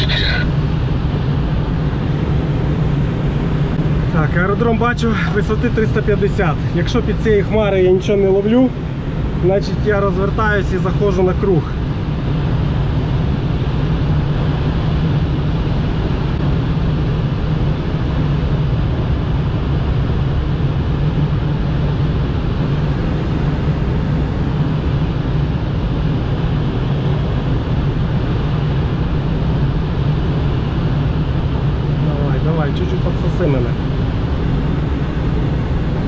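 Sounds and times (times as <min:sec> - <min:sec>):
low drone: 0:00.0 - 0:36.0.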